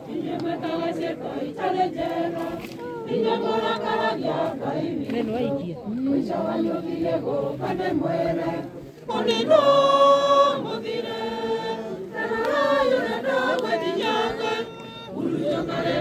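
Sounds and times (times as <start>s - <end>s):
crowd singing a hymn: 0.0s - 16.0s.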